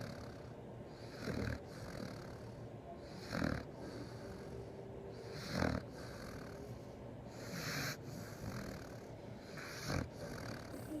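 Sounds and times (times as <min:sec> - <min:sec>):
puppy snoring: 0:00.0 - 0:11.0.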